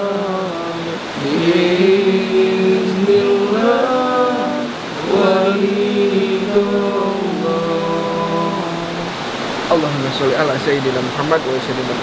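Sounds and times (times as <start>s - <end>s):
men chanting in unison: 0.0s - 9.7s.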